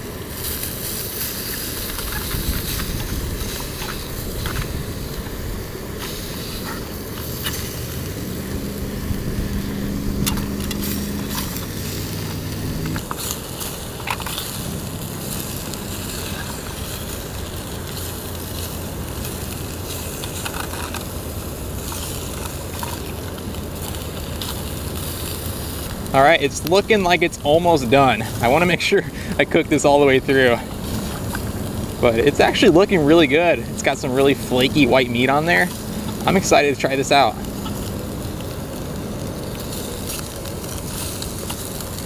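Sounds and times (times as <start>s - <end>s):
crackles and pops: 0.0s - 42.0s
fish sizzling in a skillet: 0.0s - 42.0s
low steady hum: 0.0s - 42.0s.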